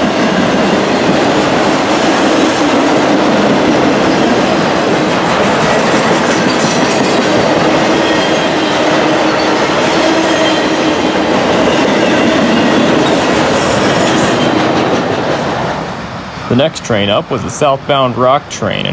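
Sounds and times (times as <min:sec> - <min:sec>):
steel train wheels on rail: 0:00.0 - 0:18.9.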